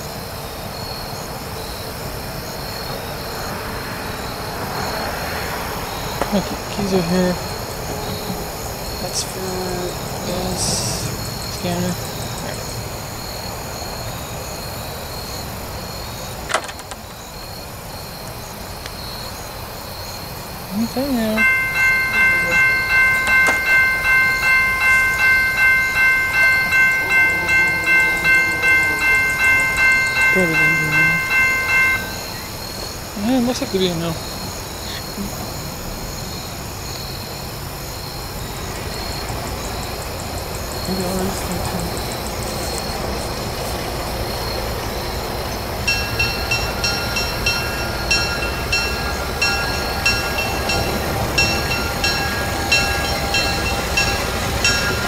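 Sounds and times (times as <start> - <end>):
crickets trilling: 0.0 - 55.0
distant train rumble: 0.0 - 55.0
insects chirping: 0.0 - 55.0.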